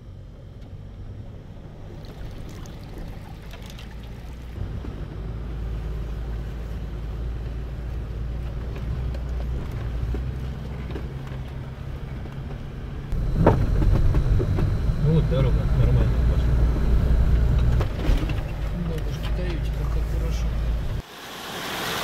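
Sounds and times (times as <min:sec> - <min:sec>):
car engine running at low revs: 0:03.3 - 0:21.0.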